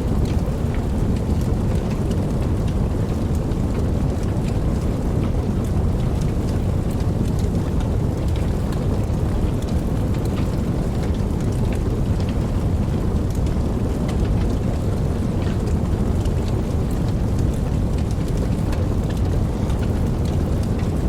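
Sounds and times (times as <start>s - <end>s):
rain falling: 0.0s - 21.0s
raindrop ticks: 0.0s - 21.0s.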